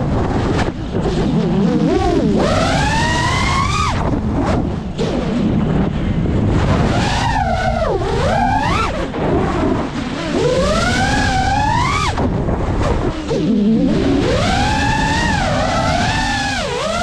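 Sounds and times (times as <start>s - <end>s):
propeller and wind rush: 0.0s - 17.0s
drone motors whining: 0.2s - 17.0s.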